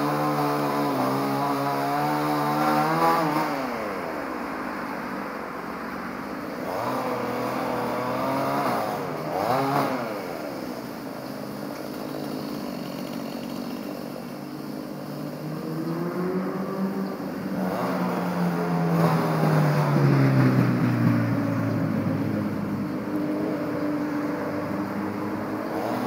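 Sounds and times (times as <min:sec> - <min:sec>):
chainsaw revving and idling: 0:00.0 - 0:05.1, 0:06.4 - 0:26.0.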